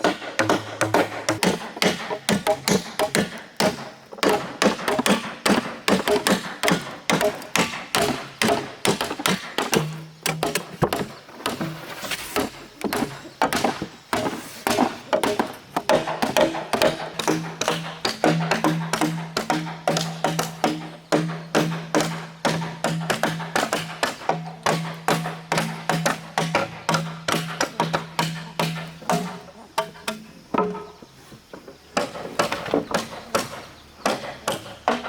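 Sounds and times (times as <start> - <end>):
rapid irregular tapping and knocking: 0.0 - 30.8.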